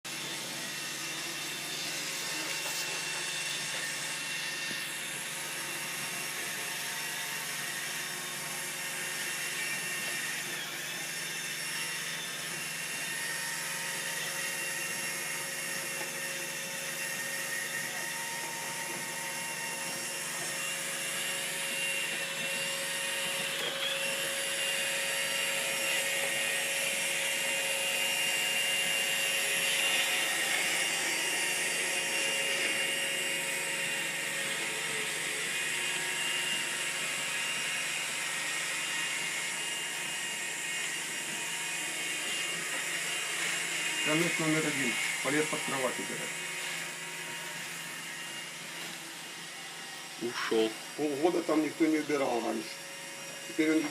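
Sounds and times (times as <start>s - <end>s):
robot vacuum cleaner running: 0.1s - 53.9s.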